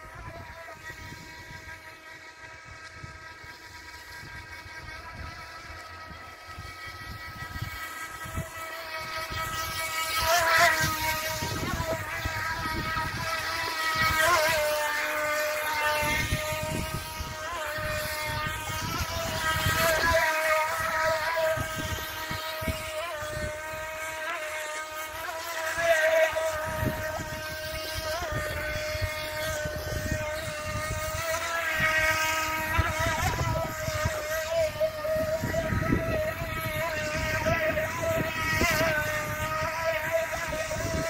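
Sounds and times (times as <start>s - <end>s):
electric motor whining: 0.0s - 41.0s
wind buffeting microphone: 0.0s - 41.0s.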